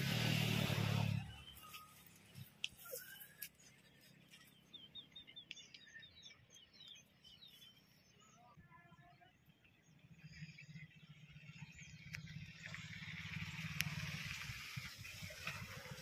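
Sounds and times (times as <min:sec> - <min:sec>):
faint birds chirping: 0:00.1 - 0:16.0.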